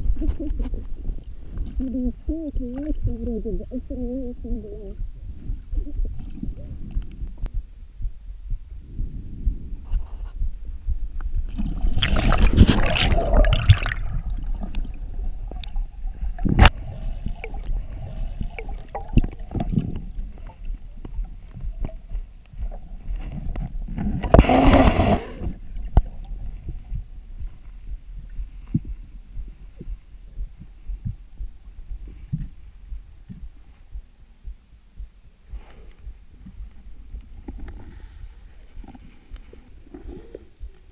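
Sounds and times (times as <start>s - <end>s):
low underwater thuds and rubbing: 5.0s - 40.9s.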